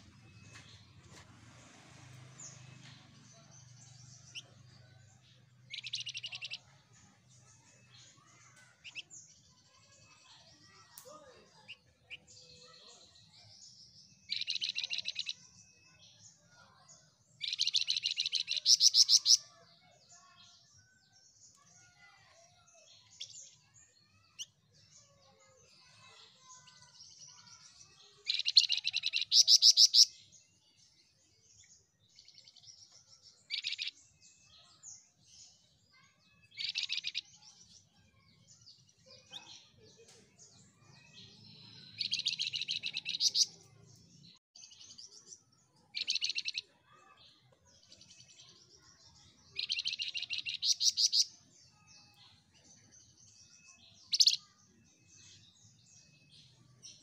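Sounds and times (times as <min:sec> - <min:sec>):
soft bird twittering: 0:02.2 - 0:20.6, 0:21.4 - 0:30.6, 0:31.4 - 0:57.0.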